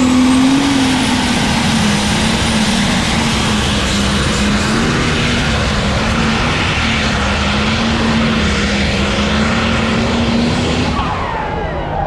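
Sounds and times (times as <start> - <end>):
tractor engine running at full load: 0.0 - 12.0.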